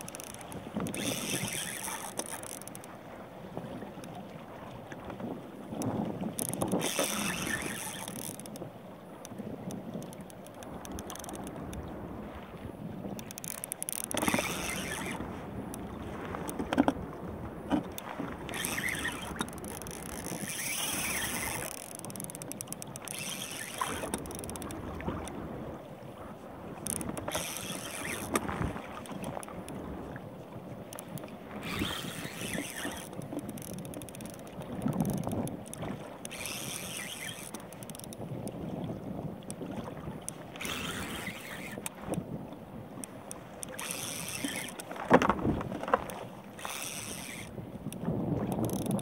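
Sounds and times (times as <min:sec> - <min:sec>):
gear knocking on boat: 0:00.0 - 0:03.0, 0:04.9 - 0:12.0, 0:13.0 - 0:25.4, 0:26.7 - 0:30.2, 0:30.8 - 0:38.8, 0:39.4 - 0:49.0
waves slapping kayak hull: 0:00.0 - 0:49.0
wind on microphone: 0:00.0 - 0:49.0.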